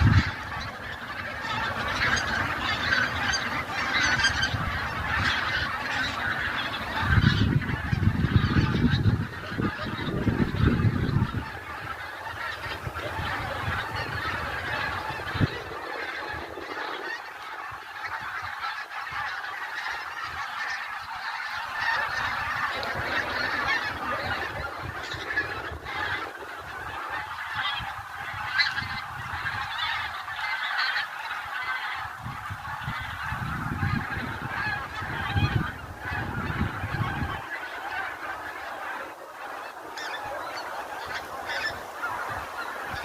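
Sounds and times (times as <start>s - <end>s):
geese honking in flight: 0.0s - 43.0s.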